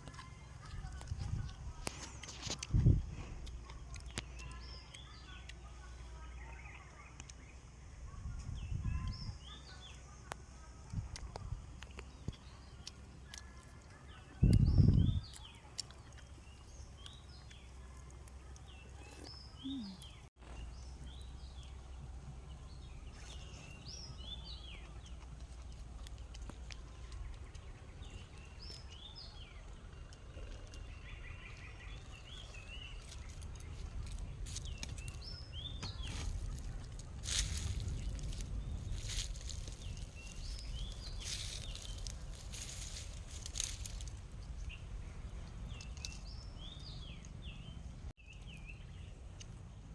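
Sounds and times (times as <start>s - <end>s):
low outdoor rumble: 0.0s - 49.9s
small birds chirping: 0.0s - 49.9s.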